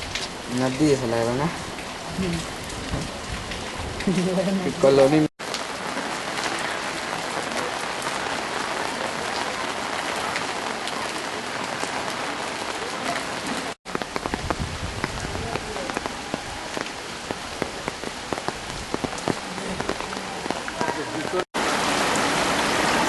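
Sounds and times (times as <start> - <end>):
heavy rain on water and hard surfaces: 0.0 - 23.0.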